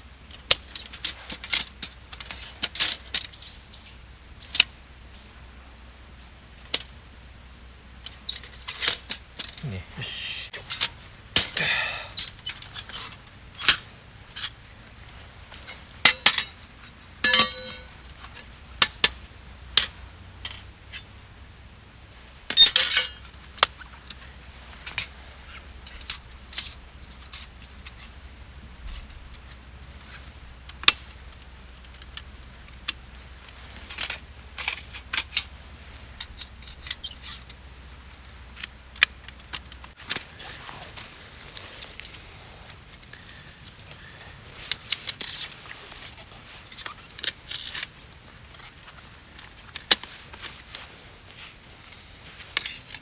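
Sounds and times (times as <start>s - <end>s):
metal camping gear clinking: 0.3s - 3.4s, 8.0s - 21.2s, 22.2s - 53.0s.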